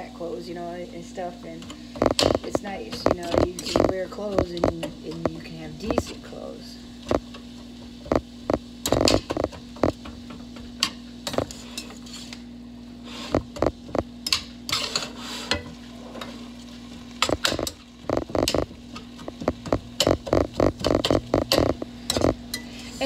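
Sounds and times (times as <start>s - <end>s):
steady low hum: 0.0s - 14.5s, 17.0s - 23.0s.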